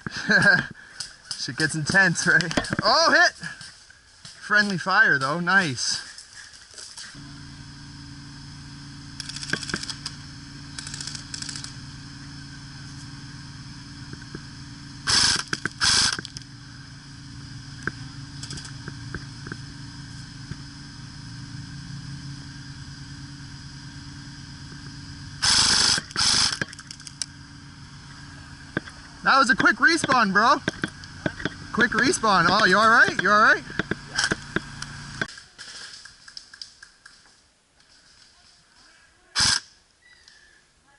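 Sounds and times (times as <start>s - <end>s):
low hum: 0.0s - 35.4s.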